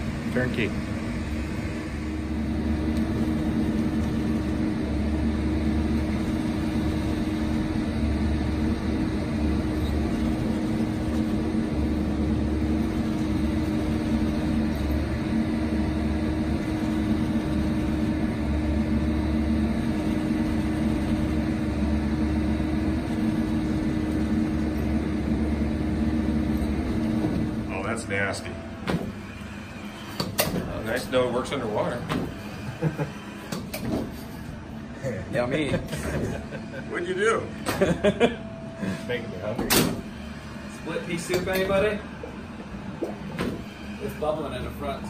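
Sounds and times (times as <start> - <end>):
engine hum with low throb: 0.0 - 45.0.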